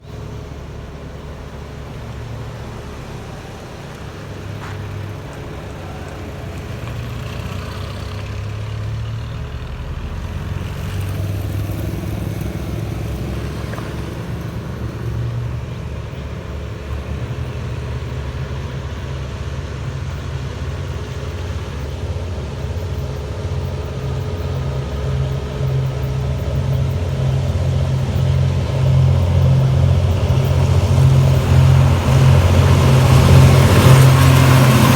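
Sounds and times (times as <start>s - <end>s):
diesel train engine rumble: 0.0s - 34.9s.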